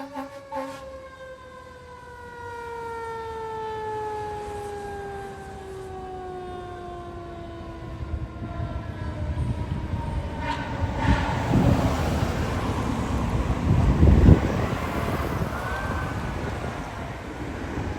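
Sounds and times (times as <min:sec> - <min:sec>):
fire engine rumble passing: 0:00.0 - 0:17.9
mechanical siren wailing: 0:00.0 - 0:17.9.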